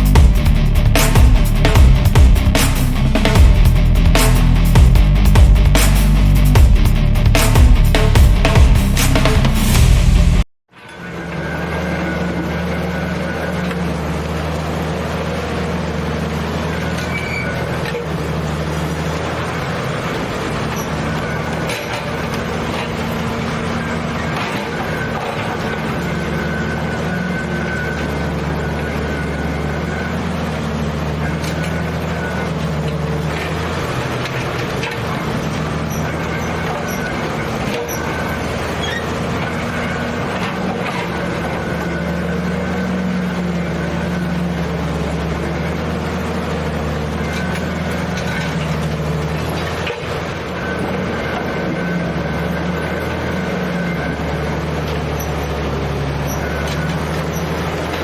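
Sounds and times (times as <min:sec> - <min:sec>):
heavy equipment engine running: 0:00.0 - 0:58.0.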